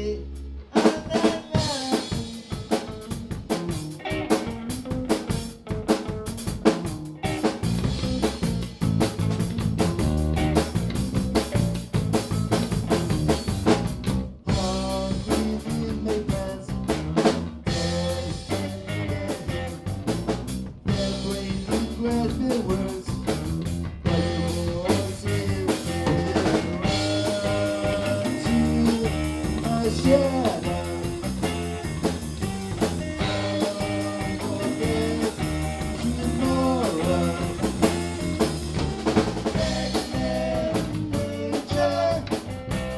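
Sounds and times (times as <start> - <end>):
rock band playing: 0.0 - 42.9
drum rimshots: 0.8 - 42.9.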